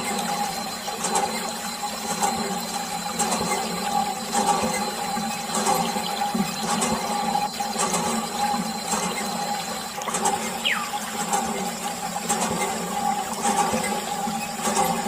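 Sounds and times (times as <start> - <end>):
electric water pump humming: 0.0 - 15.0
water spraying and splashing: 0.0 - 15.0.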